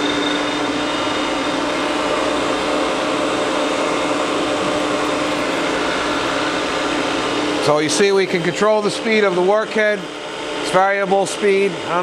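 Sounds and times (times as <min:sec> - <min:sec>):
grinding machine whirring: 0:00.0 - 0:12.0.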